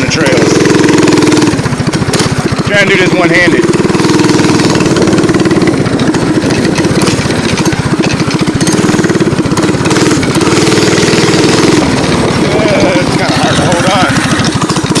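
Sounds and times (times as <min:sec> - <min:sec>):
mini bike engine revving: 0:00.0 - 0:15.0.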